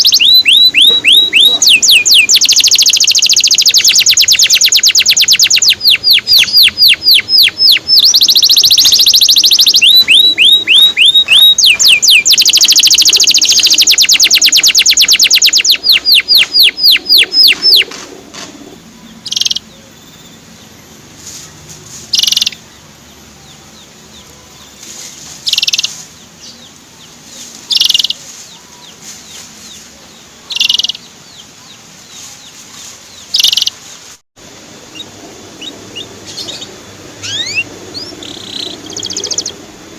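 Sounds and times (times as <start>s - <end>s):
canary singing chirps and trills: 0.0s - 18.0s, 18.6s - 33.9s, 34.9s - 39.8s.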